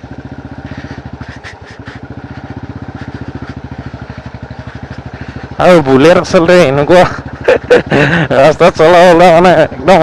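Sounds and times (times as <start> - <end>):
motorcycle engine thumping: 0.0 - 8.3.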